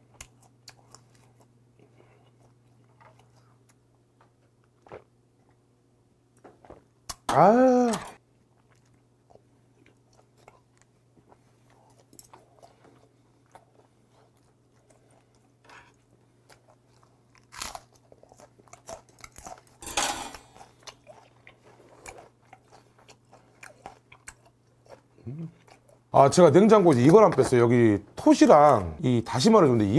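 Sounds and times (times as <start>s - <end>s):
faint low hum: 0.0s - 29.9s.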